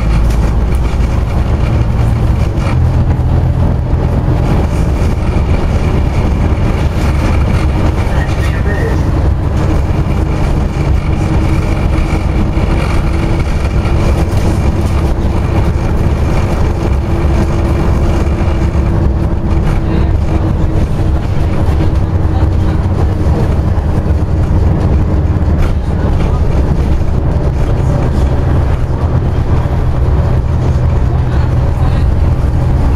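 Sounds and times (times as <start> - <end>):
diesel engine drone: 0.0 - 32.9
road rumble: 0.0 - 32.9.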